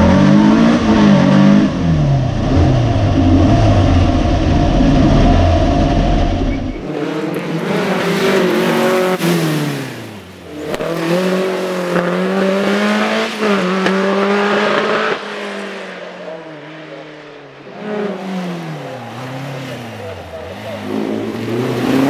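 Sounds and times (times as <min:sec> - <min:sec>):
car engine revving hard: 0:00.0 - 0:15.7, 0:17.7 - 0:22.0.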